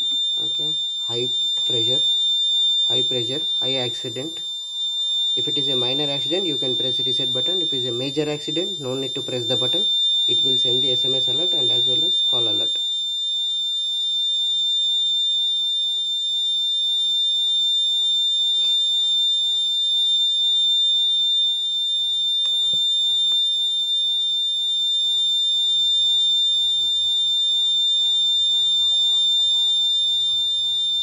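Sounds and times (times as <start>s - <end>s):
high-pitched alarm buzzer: 0.0s - 31.0s.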